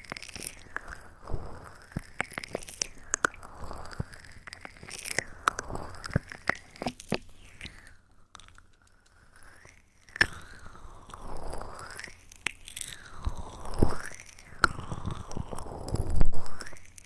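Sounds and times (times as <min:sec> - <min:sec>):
soft crackling textures: 0:00.0 - 0:17.0.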